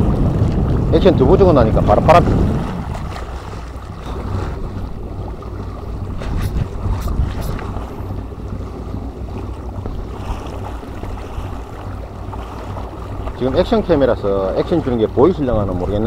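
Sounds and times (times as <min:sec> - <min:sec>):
sea water lapping: 0:00.0 - 0:16.0
wind buffeting microphone: 0:00.0 - 0:16.0.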